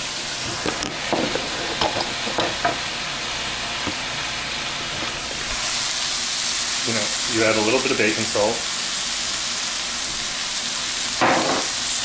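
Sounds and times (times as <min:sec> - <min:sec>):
greens sizzling in a hot pan: 0:00.0 - 0:12.0.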